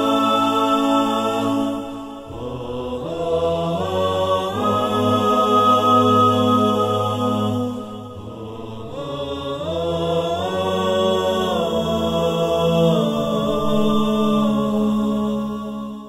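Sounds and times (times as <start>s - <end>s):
wordless vocal music: 0.0s - 16.0s.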